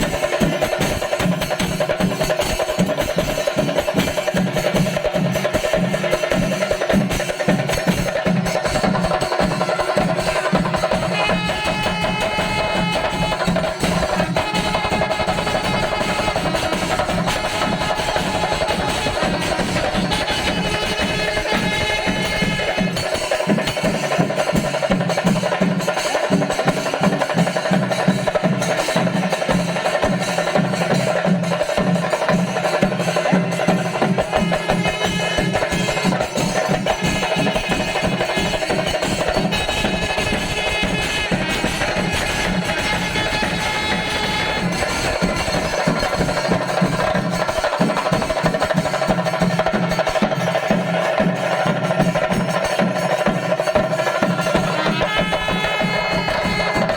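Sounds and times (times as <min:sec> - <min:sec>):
fast drumming with rolls: 0:00.0 - 0:56.9.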